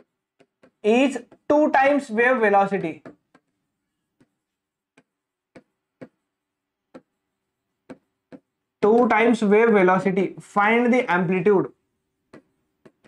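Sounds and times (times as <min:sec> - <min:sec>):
chalk tapping on blackboard: 0:00.0 - 0:09.4, 0:11.6 - 0:13.0.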